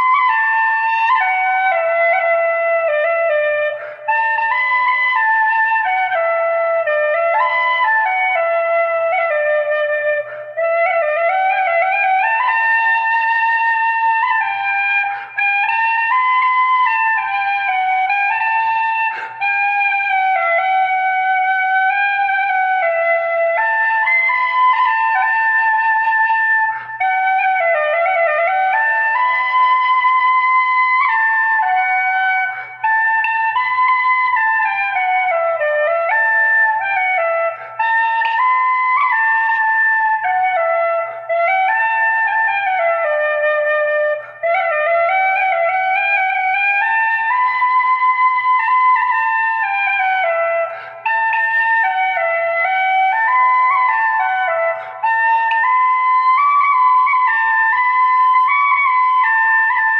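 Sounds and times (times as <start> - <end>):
flute playing slow melody: 0.0 - 59.9.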